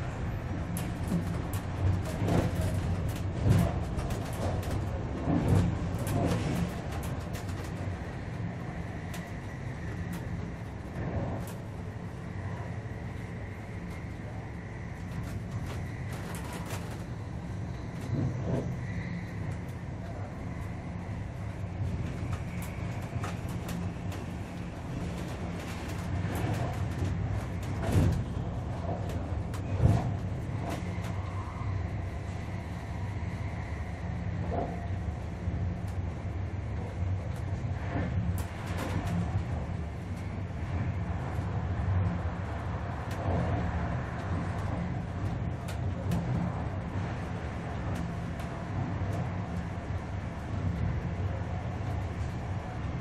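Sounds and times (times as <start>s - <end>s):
train rumble heard on board: 0.0s - 53.0s
faint steady whine: 7.0s - 53.0s.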